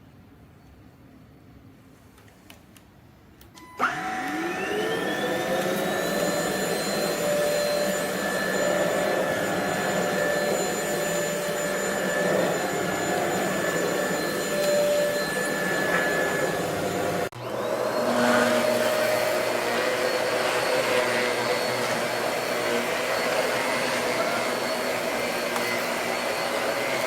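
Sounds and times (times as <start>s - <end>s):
stick vacuum running: 3.8s - 27.0s.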